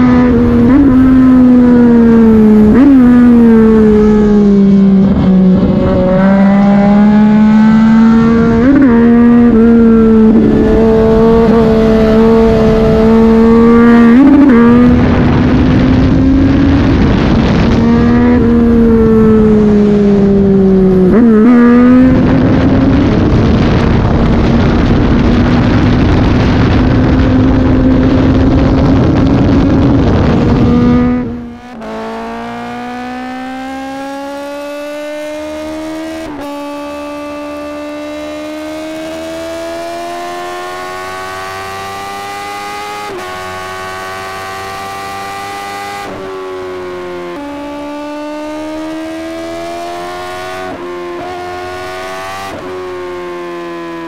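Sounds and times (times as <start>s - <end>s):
motorcycle engine at speed: 0.0s - 54.0s
wind noise: 0.0s - 54.0s.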